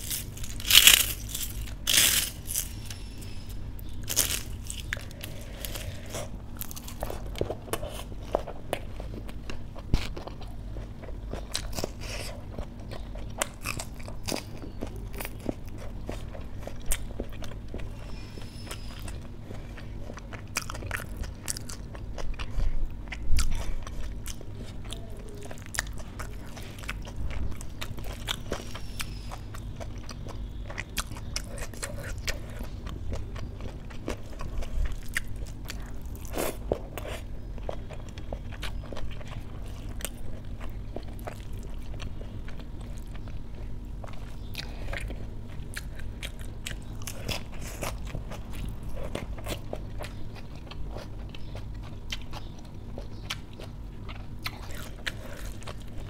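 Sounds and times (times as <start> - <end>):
crunchy biting and chewing: 0.0 - 56.0
steady low hum: 0.0 - 56.0.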